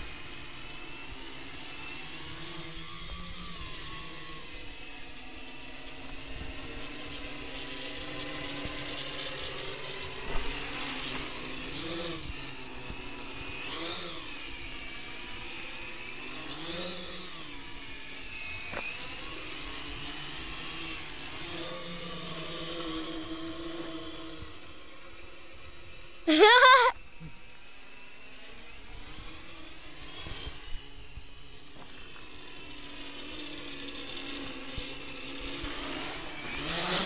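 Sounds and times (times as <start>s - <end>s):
quadcopter motors whining: 0.0s - 37.0s.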